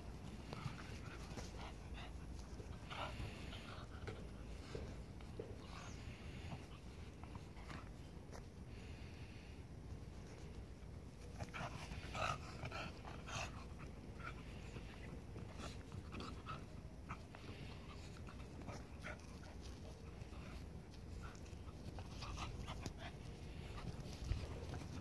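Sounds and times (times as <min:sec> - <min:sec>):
dogs play-fighting vocal noises: 0:00.1 - 0:08.5, 0:10.0 - 0:25.0.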